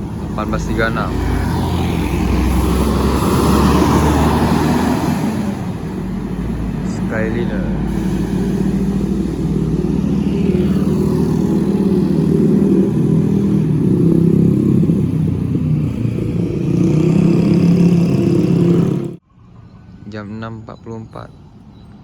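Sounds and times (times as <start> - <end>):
diesel bus engine rumbling: 0.0 - 22.0.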